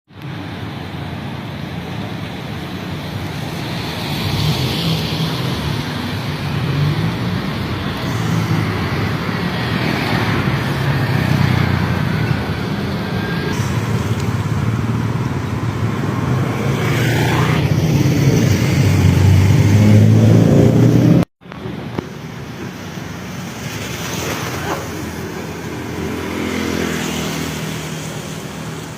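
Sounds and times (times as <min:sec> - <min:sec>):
vehicle engine and road noise: 0:00.1 - 0:28.9.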